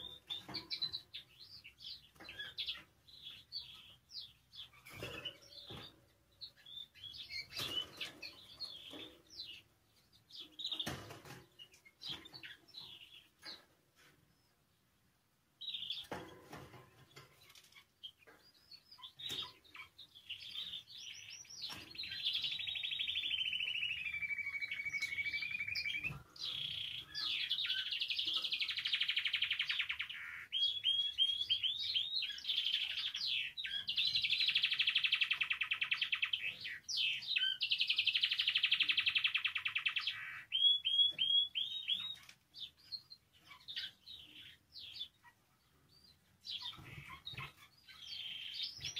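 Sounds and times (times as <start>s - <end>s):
canary singing trills: 0.0s - 13.7s, 15.6s - 48.9s.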